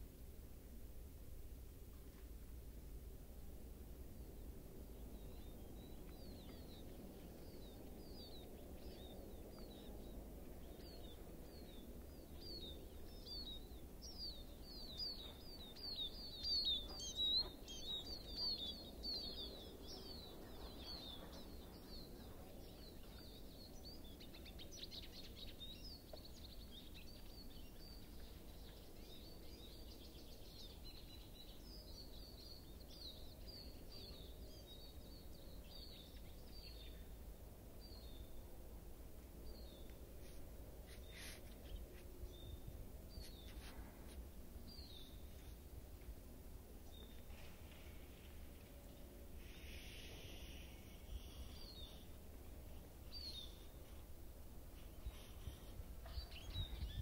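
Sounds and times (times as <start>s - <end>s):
faint low outdoor background: 0.0s - 57.0s
small songbirds chirping: 3.6s - 57.0s.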